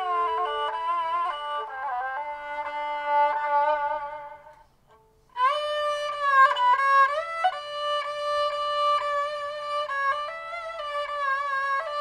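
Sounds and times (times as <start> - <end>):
bowed lyra melody: 0.0 - 12.0.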